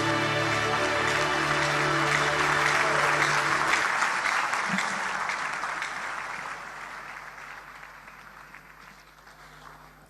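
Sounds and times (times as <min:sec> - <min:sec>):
large audience applauding: 0:00.0 - 0:10.0.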